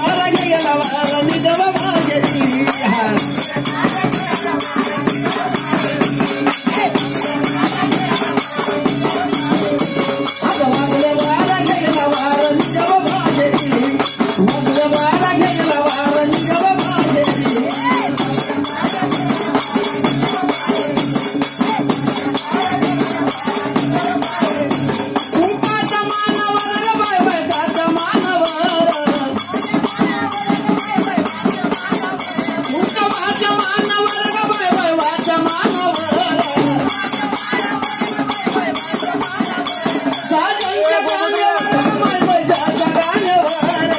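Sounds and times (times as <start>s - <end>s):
jingling hand percussion: 0.0s - 43.9s
person singing: 0.0s - 43.9s.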